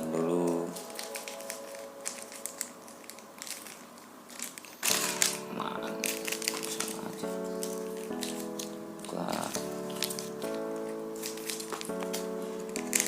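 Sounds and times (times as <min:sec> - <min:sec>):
background music: 0:00.0 - 0:13.0
plastic snack packets crinkling: 0:00.0 - 0:13.0.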